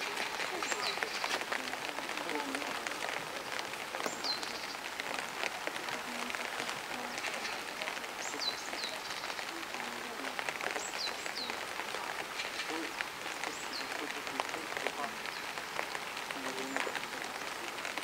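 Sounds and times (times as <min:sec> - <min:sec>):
rain pattering: 0:00.0 - 0:18.0.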